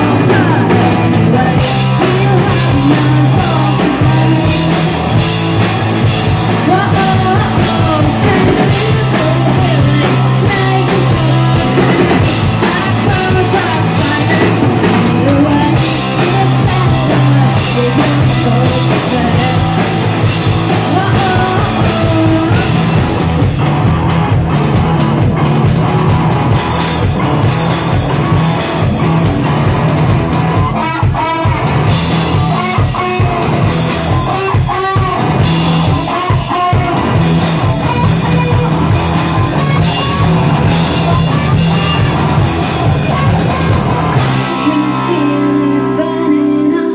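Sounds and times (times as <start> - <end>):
drum kit: 0.0 - 46.2
electric guitars: 0.0 - 46.9.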